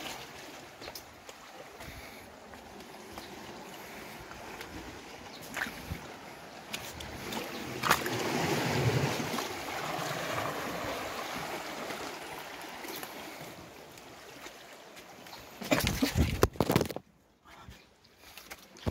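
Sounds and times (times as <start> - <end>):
small waves washing over boulders: 0.0 - 17.0.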